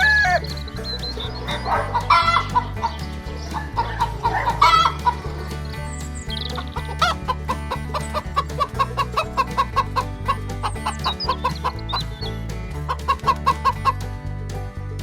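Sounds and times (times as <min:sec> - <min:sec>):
background music with bass: 0:00.0 - 0:15.0
chickens clucking: 0:00.0 - 0:15.0.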